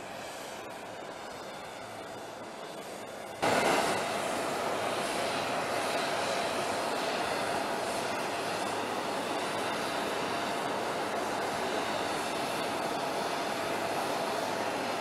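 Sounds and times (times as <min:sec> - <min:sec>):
aircraft engines idling: 0:00.1 - 0:15.0.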